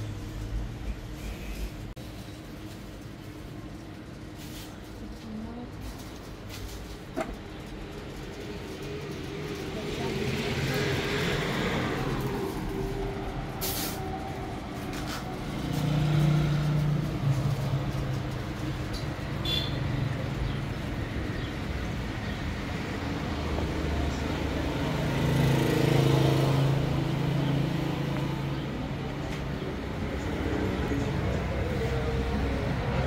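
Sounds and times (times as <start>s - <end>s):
vehicle engines humming in traffic: 0.0s - 33.0s.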